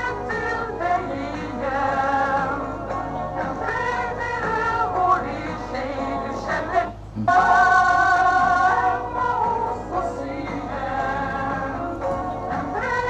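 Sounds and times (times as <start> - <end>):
music with long held lead notes: 0.0 - 13.0.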